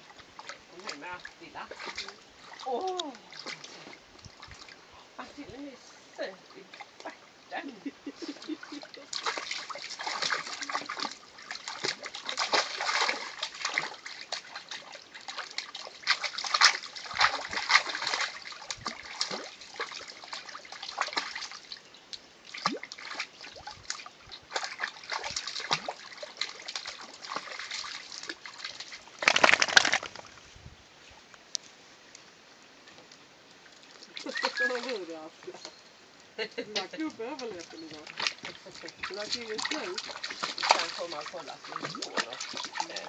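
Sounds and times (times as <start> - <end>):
water trickling: 0.0 - 30.4, 31.6 - 43.0
dogs splashing through water: 0.1 - 30.4, 33.7 - 35.8, 36.6 - 43.0.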